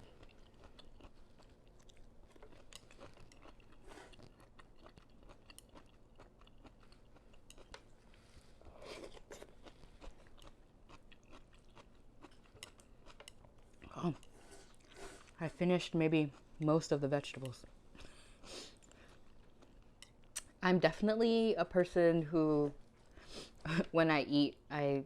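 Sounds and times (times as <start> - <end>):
chewing vegetables: 0.0 - 20.6, 22.4 - 23.7.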